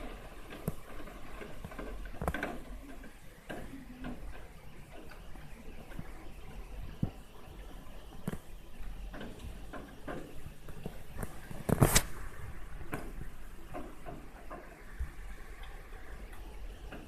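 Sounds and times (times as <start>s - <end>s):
raindrops tapping on a surface: 0.0s - 17.0s.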